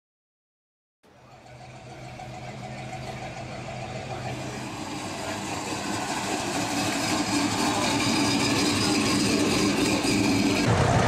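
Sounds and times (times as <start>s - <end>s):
vehicle engine idling: 1.0s - 11.0s.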